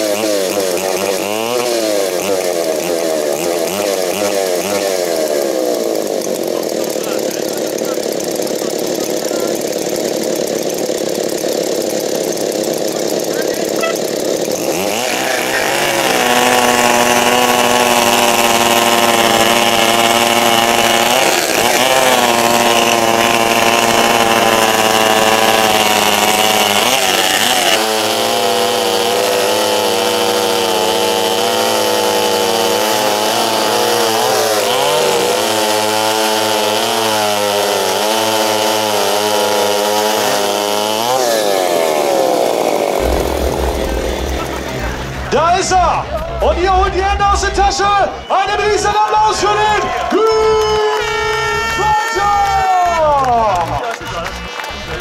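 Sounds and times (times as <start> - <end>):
chainsaws cutting logs: 0.0 - 55.0.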